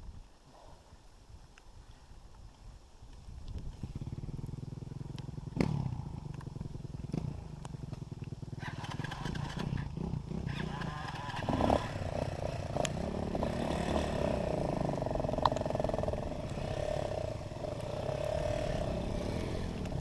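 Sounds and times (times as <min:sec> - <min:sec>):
dirt bike engine running: 0:03.6 - 0:20.0.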